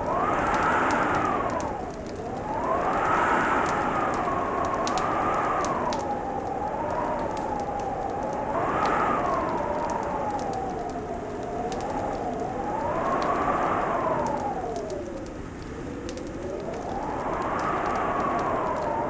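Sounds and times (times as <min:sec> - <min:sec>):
fireplace crackling and popping: 0:00.0 - 0:19.0
steady rushing hiss: 0:00.0 - 0:19.0.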